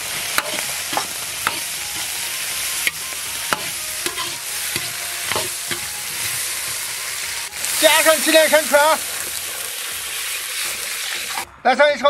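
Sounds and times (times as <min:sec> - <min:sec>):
metal spoon scraping a wok: 0:00.0 - 0:08.3, 0:09.0 - 0:11.5
peppers sizzling in a wok: 0:00.0 - 0:11.5.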